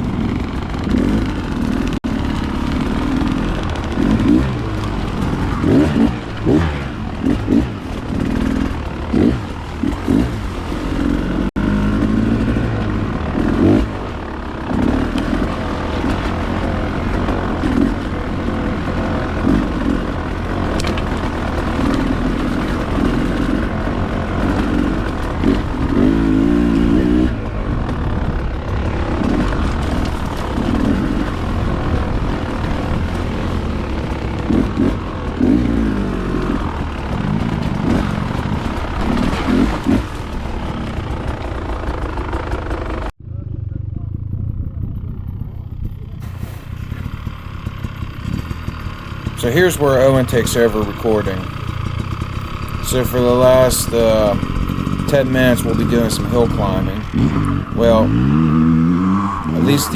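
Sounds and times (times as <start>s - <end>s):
dirt bike engine revving: 0.0s - 43.1s, 44.0s - 59.9s.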